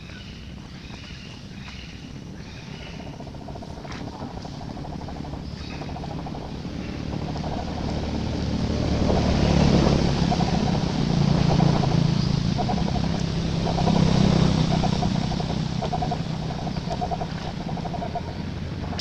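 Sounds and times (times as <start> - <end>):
motor engine humming: 0.0 - 19.0.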